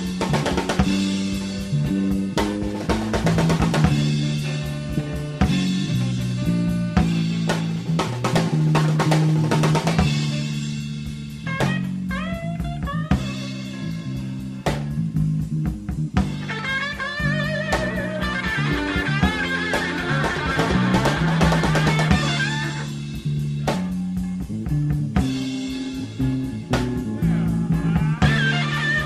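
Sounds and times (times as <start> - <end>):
electric guitar: 0.0 - 15.2, 16.2 - 29.0
drum kit: 0.0 - 29.0
electric bass line: 0.0 - 29.0.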